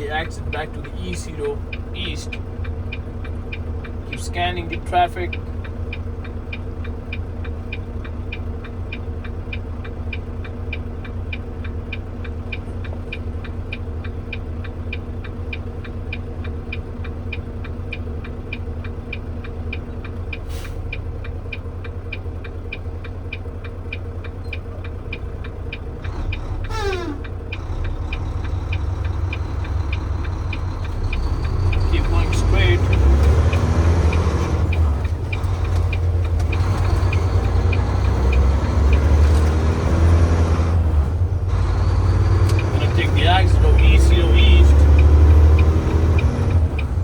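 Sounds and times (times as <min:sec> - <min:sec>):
diesel engine rumbling: 0:00.0 - 0:47.0
turn signal ticking: 0:00.0 - 0:47.0.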